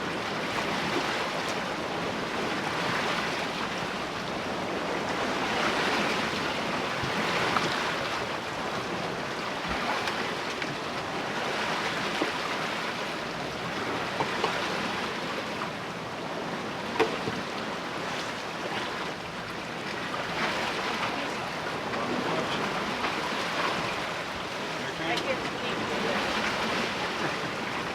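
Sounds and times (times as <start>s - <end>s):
water splashing past hull: 0.0s - 27.9s.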